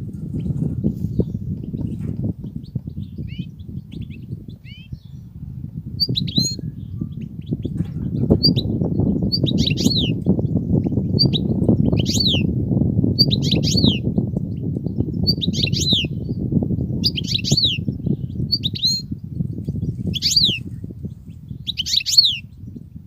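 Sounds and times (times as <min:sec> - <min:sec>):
goldfinch singing: 0:01.1 - 0:05.4, 0:06.0 - 0:12.5, 0:13.2 - 0:22.8.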